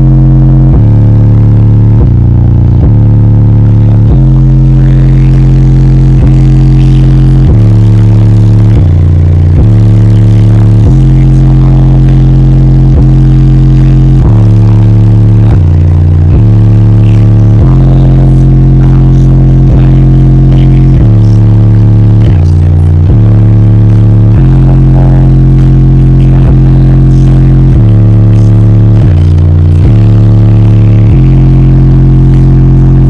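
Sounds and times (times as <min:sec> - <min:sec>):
bass-heavy song on subwoofers: 0:00.0 - 0:33.0.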